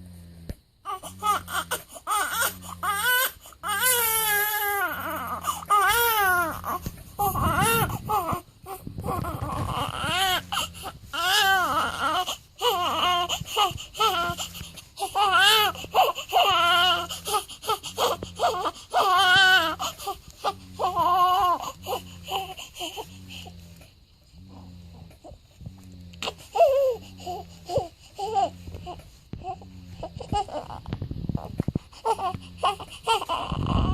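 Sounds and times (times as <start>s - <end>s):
newborn baby crying: 0.8s - 23.5s, 26.2s - 30.9s, 32.0s - 33.9s.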